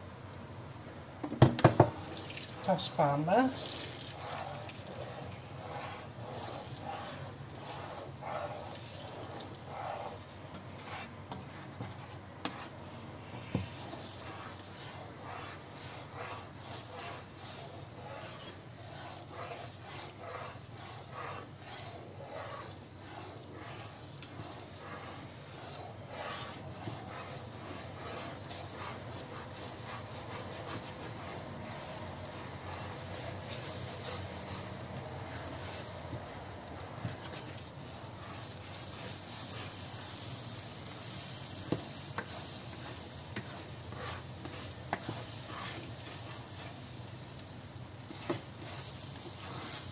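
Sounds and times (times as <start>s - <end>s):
eggs sizzling: 0.0s - 49.9s
spatula scraping frying pan: 1.3s - 49.9s.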